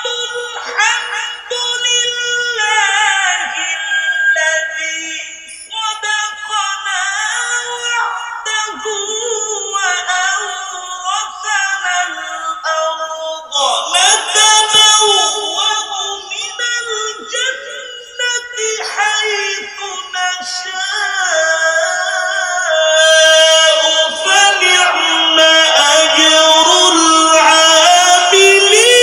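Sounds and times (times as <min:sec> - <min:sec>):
man reciting melodically: 0:00.0 - 0:29.0.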